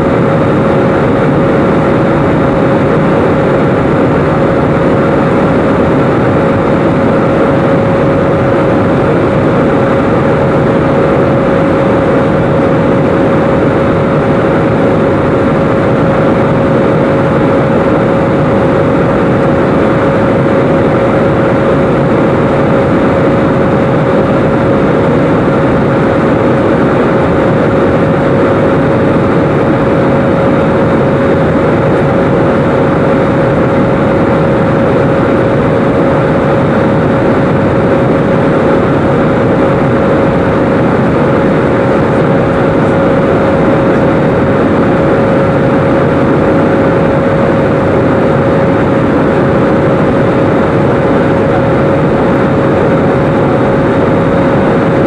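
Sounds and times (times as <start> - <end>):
jet engine and airflow rush: 0.0 - 55.0
steady mid-pitched hum: 0.0 - 55.0.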